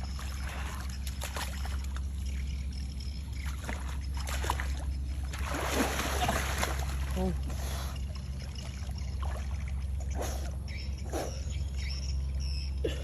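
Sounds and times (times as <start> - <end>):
water splashing and trickling: 0.0 - 11.4
steady low hum: 0.0 - 13.0.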